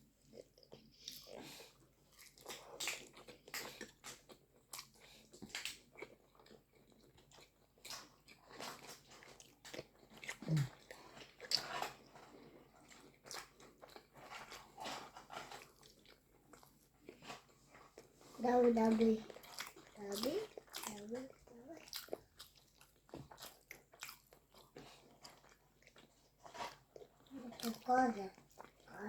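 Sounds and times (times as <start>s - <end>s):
person chewing food: 0.1s - 29.0s.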